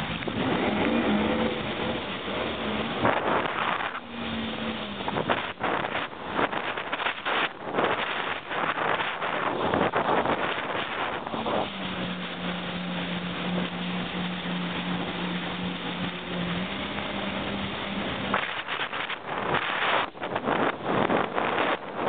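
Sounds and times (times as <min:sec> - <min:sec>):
jet ski engine running: 0:00.0 - 0:22.0
wind buffeting microphone: 0:00.0 - 0:22.0.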